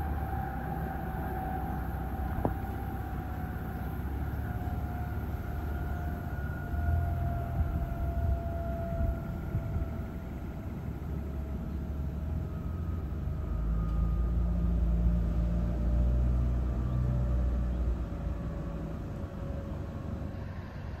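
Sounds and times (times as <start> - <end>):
thin whine dropping in pitch: 0.0 - 21.0
train passing low rumble: 0.0 - 21.0.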